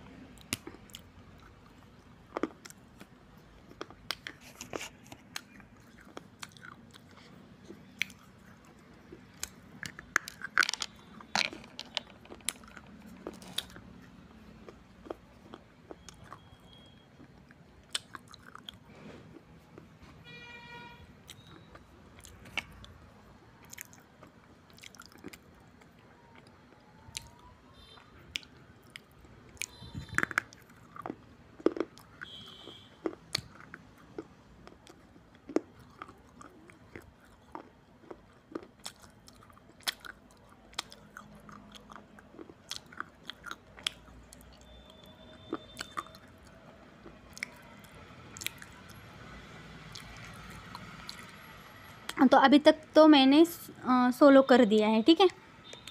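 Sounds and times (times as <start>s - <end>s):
person chewing and crunching clay: 0.0s - 20.2s, 21.2s - 52.3s.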